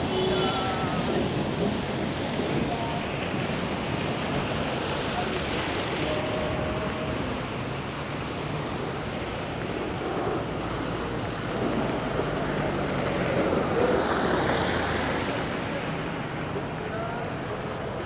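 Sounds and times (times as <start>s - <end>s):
heavy rain pouring on a street: 0.0s - 18.0s.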